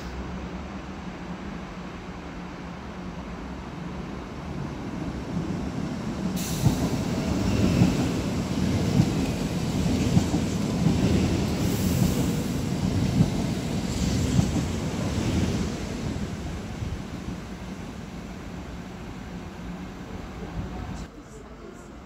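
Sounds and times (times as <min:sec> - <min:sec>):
electric train passing at speed: 0:00.0 - 0:22.0.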